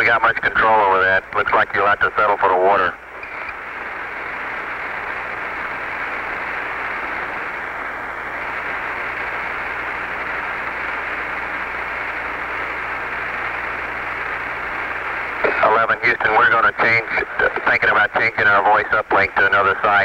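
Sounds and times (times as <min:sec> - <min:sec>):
faint low hum: 0:00.0 - 0:20.0
radio static hiss: 0:00.0 - 0:20.0.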